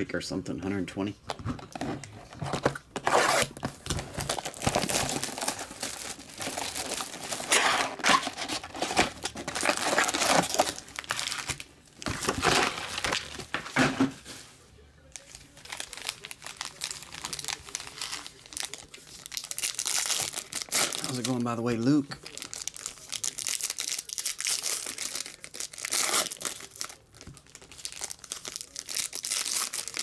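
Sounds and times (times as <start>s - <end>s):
plastic shrink-wrap crinkling and tearing: 3.0s - 13.6s, 15.0s - 30.0s
foil card packs crackling: 3.0s - 14.4s, 15.1s - 30.0s.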